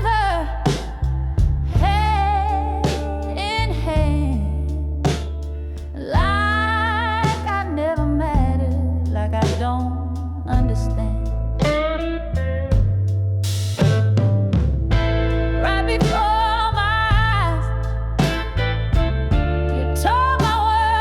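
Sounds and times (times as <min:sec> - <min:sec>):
bending blues lead melody: 0:00.0 - 0:21.0
held bass notes: 0:00.0 - 0:21.0.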